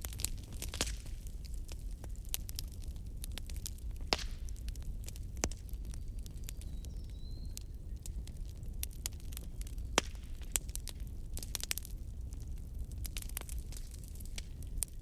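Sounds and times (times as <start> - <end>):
burning logs popping: 0.0 - 15.0
wood fire crackling: 0.0 - 15.0.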